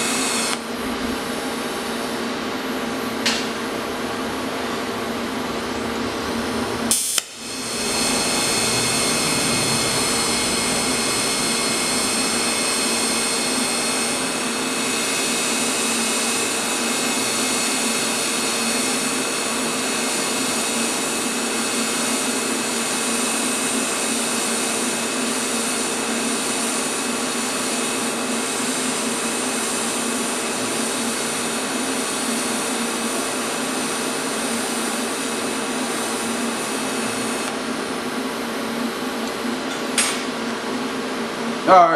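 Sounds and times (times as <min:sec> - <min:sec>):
welding arc hiss and whine: 0:00.0 - 0:41.9.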